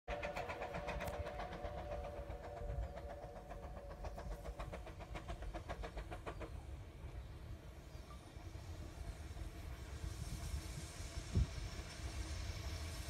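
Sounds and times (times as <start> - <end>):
steam locomotive chuffing: 0.1 - 13.0.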